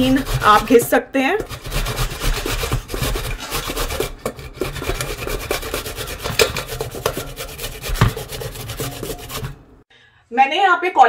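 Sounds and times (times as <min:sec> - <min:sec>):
cauliflower grated on metal grater: 0:00.0 - 0:09.6.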